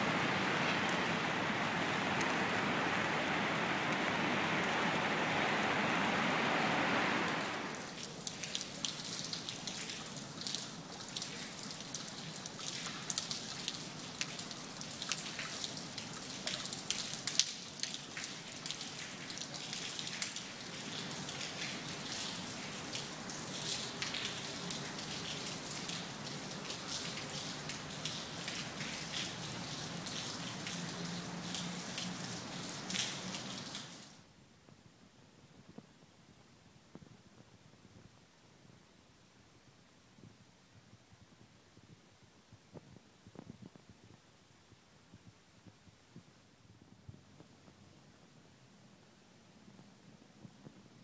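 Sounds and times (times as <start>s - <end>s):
rain on stone paving and water: 0.0s - 51.0s.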